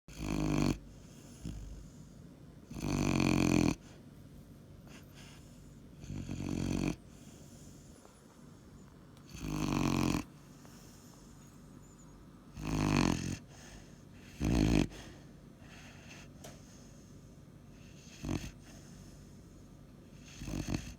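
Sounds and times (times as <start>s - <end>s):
puppy snoring: 0.1s - 4.0s, 4.8s - 20.9s
quiet breathing: 0.8s - 2.5s, 3.7s - 6.3s, 6.9s - 12.3s, 13.3s - 20.9s.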